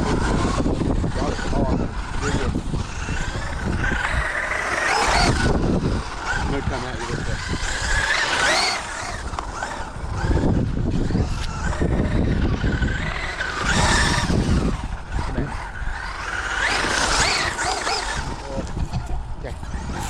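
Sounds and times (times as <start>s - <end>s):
electric motor whining: 0.0s - 20.0s
tires on rough ground: 0.0s - 20.0s.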